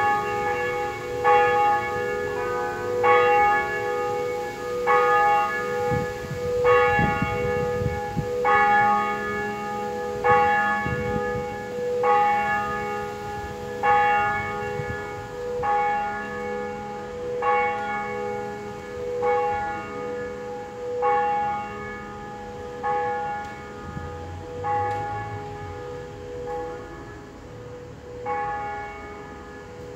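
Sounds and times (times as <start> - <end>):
church bells ringing: 0.0 - 29.9.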